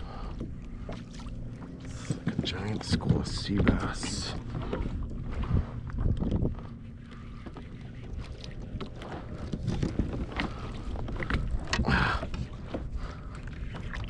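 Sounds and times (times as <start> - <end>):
water lapping at kayak hull: 0.0 - 14.0
wind buffeting microphone: 1.7 - 14.0.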